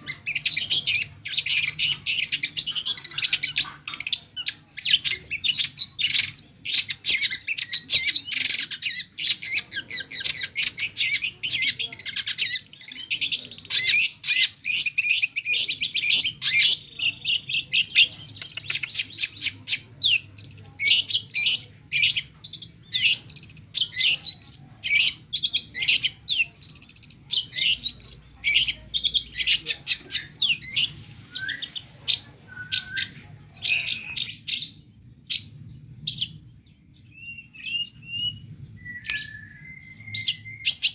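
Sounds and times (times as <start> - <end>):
bird singing and chattering: 0.0 - 40.9
faint low hum: 0.0 - 40.9.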